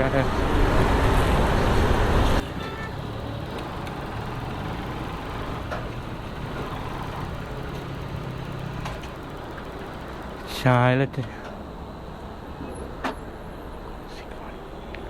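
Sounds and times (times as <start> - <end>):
low engine hum: 0.0 - 15.0
traffic noise: 0.0 - 15.0
wind and road noise: 0.0 - 15.0.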